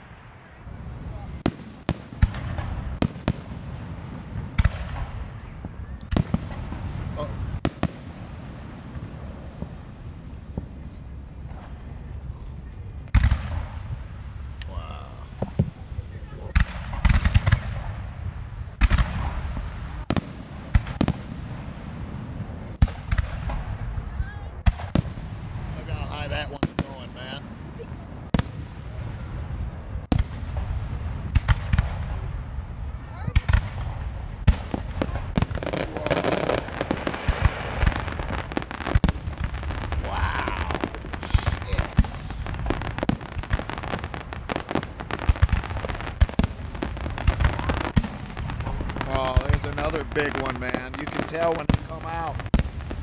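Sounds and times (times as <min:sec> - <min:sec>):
fireworks bursting with sharp bangs: 0:00.0 - 0:53.0
low rumble: 0:02.2 - 0:45.0.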